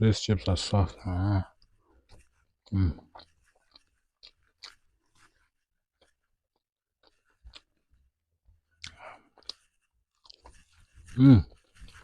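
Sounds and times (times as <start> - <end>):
person chewing food: 0.4 - 12.0.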